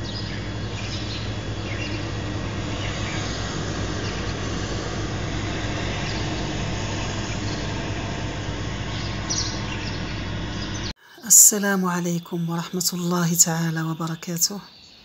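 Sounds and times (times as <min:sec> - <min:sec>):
low hum: 0:00.0 - 0:14.6.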